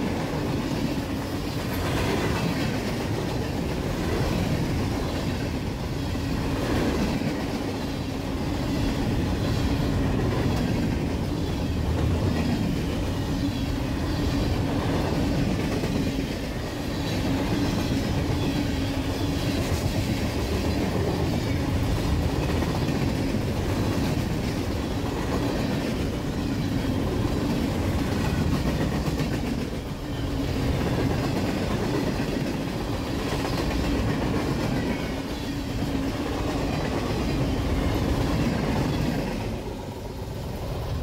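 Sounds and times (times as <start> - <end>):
train wheels clattering on rails: 0.0 - 41.0.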